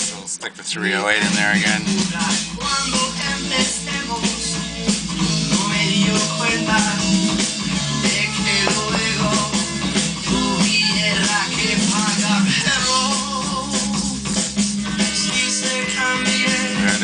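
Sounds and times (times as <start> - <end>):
rock music with singing and guitar: 0.0 - 17.0.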